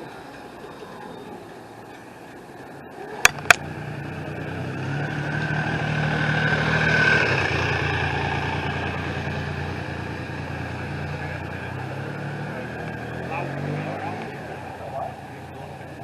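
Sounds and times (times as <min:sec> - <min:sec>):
tram running with whine: 0:00.0 - 0:16.0.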